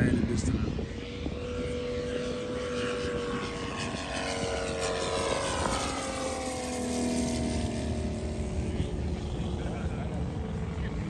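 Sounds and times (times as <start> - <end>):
model airplane propeller engine: 0.0 - 11.0.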